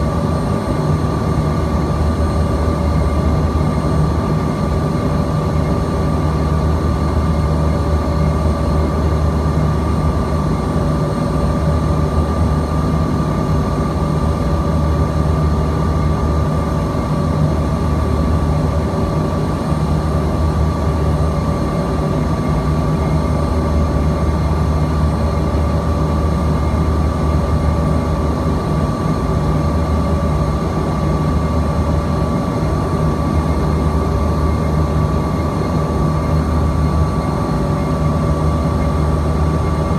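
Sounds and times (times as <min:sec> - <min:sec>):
constant high whine: 0:00.0 - 0:39.9
jet engine rumble and rush: 0:00.0 - 0:39.9.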